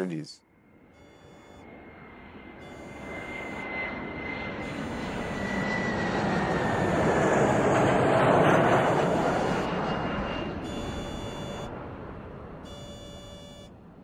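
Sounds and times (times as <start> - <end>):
high jet engine whine: 0.0 - 14.0
jet engines roaring: 1.2 - 14.0.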